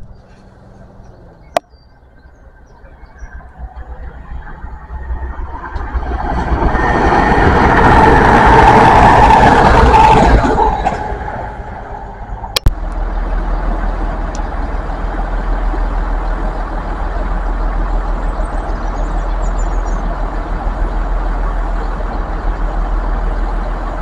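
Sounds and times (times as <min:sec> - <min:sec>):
train diesel engines running: 0:00.0 - 0:24.0.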